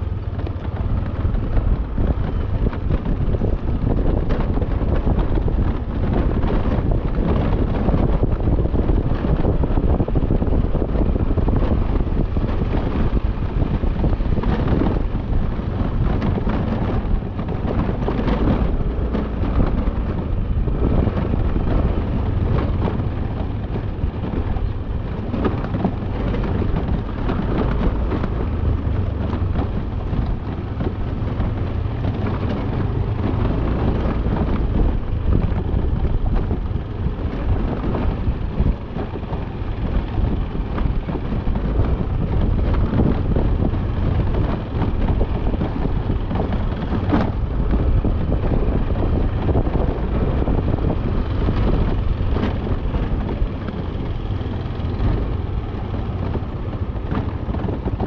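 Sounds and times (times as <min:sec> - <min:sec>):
motorcycle engine and road noise: 0:00.0 - 0:58.0
wind over microphone: 0:00.0 - 0:58.0.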